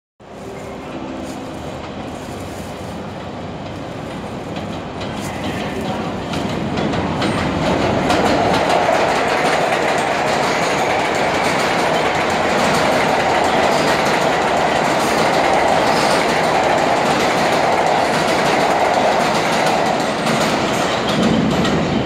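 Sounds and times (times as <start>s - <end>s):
subway train rumble: 0.2s - 22.0s
wheels clattering over rail joints: 2.7s - 22.0s.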